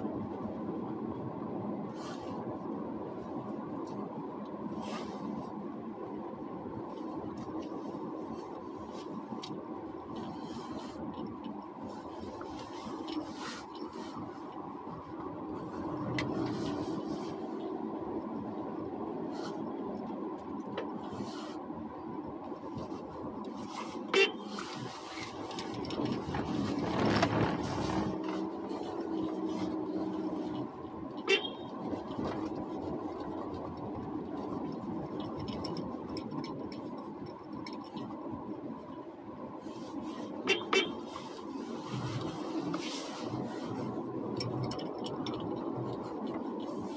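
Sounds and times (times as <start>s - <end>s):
car engine and tyre hum: 0.0s - 46.9s.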